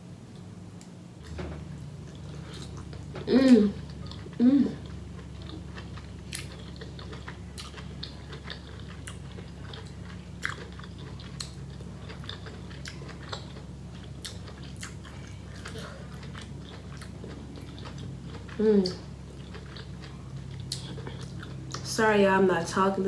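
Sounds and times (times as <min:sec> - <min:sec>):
low steady hum: 0:00.0 - 0:23.0
person chewing with mouth smacks: 0:02.0 - 0:21.9.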